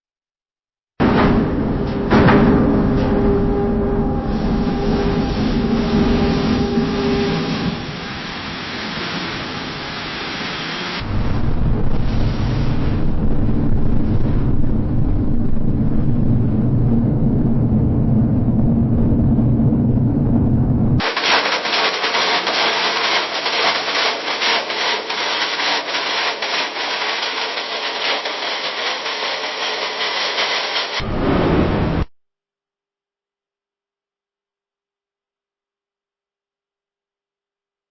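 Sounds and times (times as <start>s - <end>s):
low machinery rumble: 1.0s - 32.0s.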